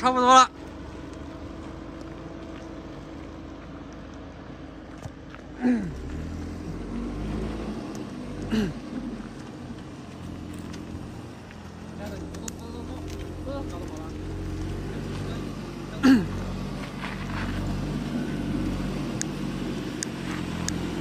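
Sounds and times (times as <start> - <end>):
car engine at low revs: 0.0 - 21.0.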